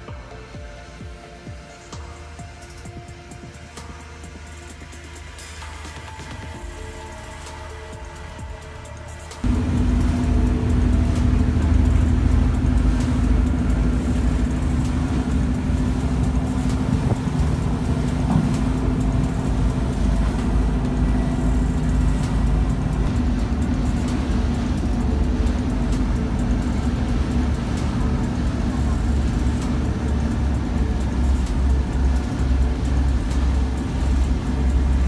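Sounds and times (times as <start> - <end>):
boat diesel engines droning: 0.0 - 35.0.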